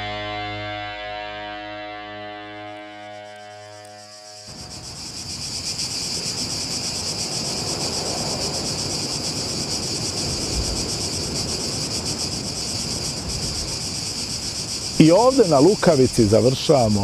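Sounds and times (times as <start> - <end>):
crickets chirping: 2.6 - 17.0.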